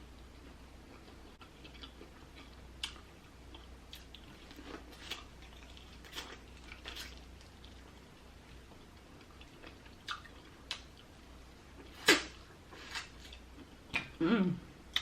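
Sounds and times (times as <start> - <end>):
person chewing food: 0.0 - 14.2.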